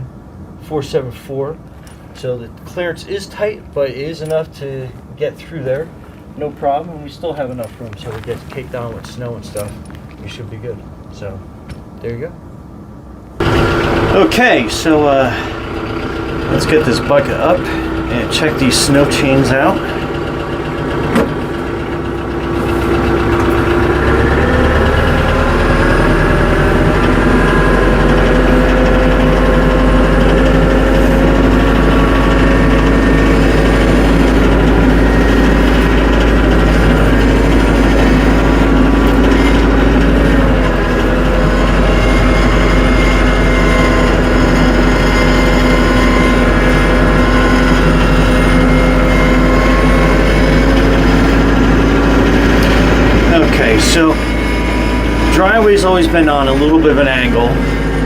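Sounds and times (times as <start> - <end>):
tractor diesel engine running: 0.0 - 12.0, 12.6 - 58.0.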